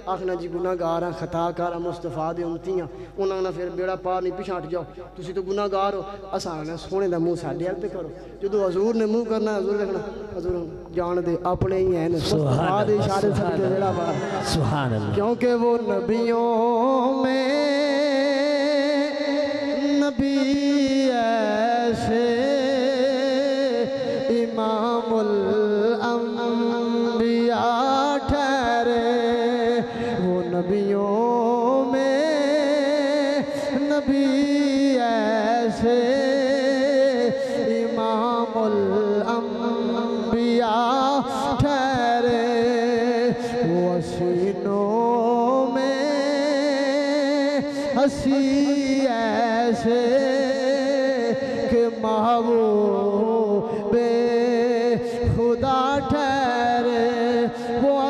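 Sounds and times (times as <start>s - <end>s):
man singing devotional verse: 0.0s - 58.0s.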